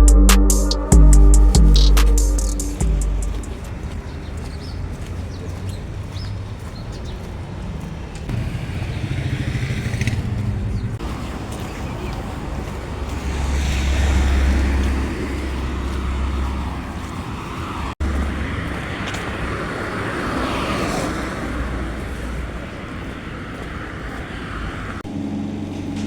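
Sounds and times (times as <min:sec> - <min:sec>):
vehicle rumble and hiss: 0:01.6 - 0:26.0.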